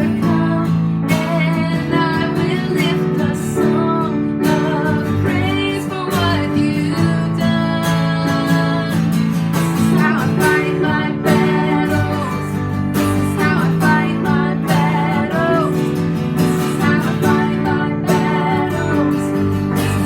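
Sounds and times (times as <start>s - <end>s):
strummed acoustic guitar music: 0.0s - 20.0s.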